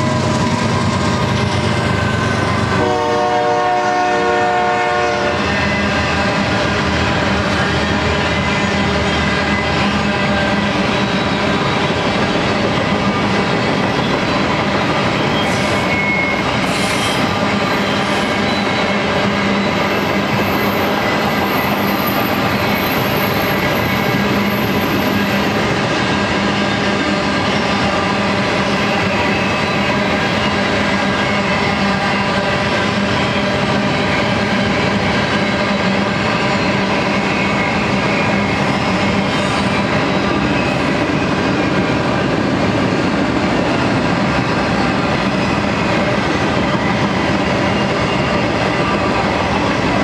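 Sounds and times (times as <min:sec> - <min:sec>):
freight train wheels on rails: 0:00.0 - 0:50.0.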